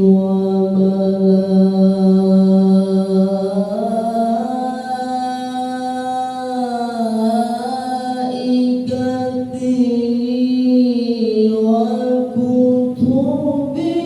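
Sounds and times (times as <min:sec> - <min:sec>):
person chanting melodically: 0:00.0 - 0:14.0.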